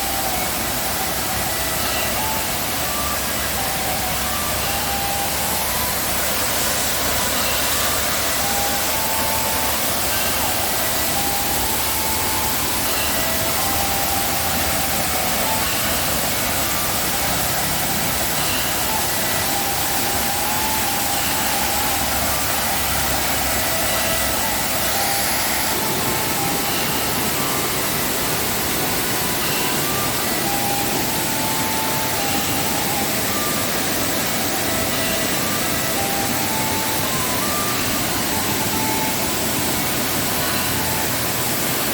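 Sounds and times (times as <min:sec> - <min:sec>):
short high notes: 0:00.0 - 0:41.9
waterfall roaring: 0:00.0 - 0:41.9.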